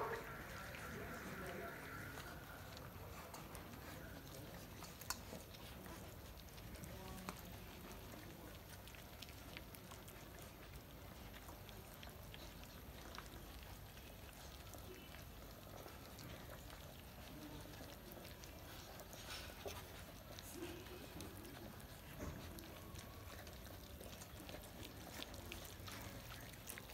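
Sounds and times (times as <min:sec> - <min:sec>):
puppies eating wet smacking: 0:00.0 - 0:26.9.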